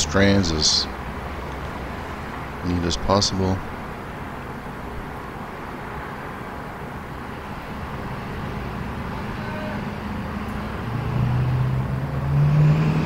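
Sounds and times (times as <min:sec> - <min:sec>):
city street traffic: 0:00.0 - 0:13.0
vehicle engine drone: 0:00.0 - 0:13.0.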